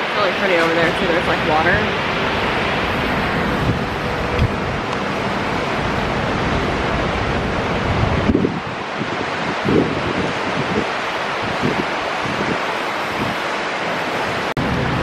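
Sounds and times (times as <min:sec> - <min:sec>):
fans blowing air: 0:00.0 - 0:15.0.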